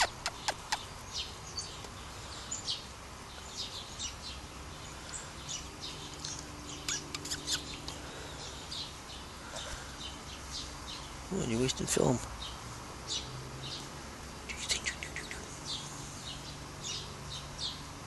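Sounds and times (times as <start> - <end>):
sparrows chirping: 0.0 - 18.0.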